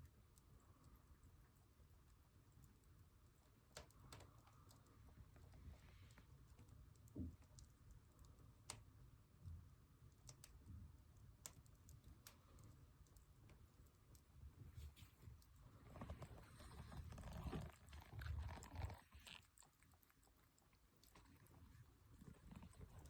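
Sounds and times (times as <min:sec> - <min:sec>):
firewood crackling in stove: 0:03.4 - 0:23.0.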